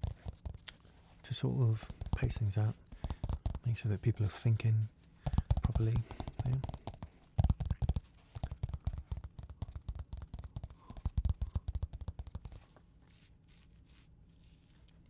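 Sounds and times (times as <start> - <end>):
fingertip tapping and scratching: 0.0 - 13.3.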